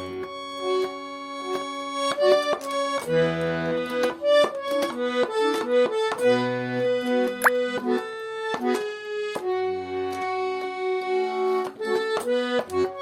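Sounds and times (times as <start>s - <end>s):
button accordion melody: 0.0s - 13.0s.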